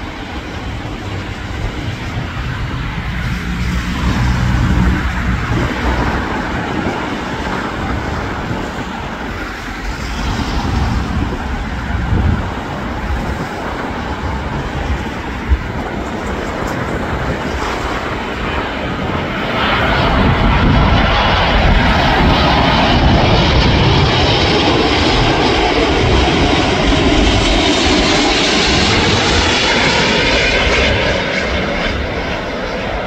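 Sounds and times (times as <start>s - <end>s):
road traffic: 0.0s - 30.9s
jet engine rumble and hiss: 0.0s - 33.0s.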